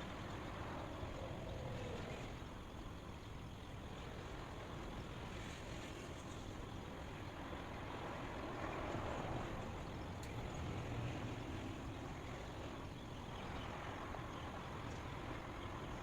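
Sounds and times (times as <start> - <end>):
steady white noise hiss: 0.0 - 16.0.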